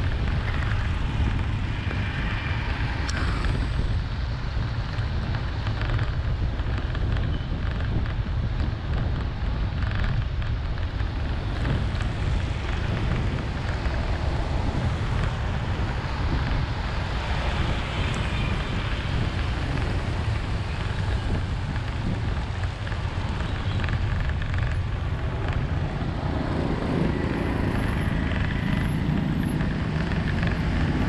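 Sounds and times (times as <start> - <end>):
wet tyres road noise: 0.0 - 31.0
wind rumble on microphone: 0.0 - 31.0.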